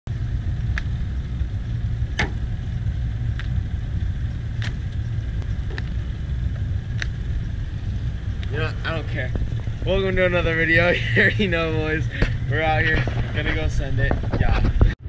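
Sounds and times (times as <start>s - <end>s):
boat engine idling: 0.1s - 14.0s.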